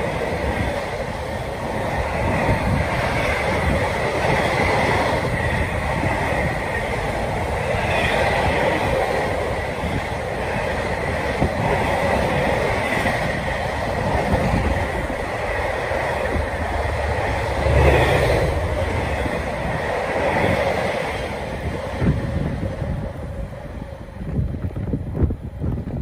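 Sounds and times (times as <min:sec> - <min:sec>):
freight train passing: 0:00.0 - 0:26.0.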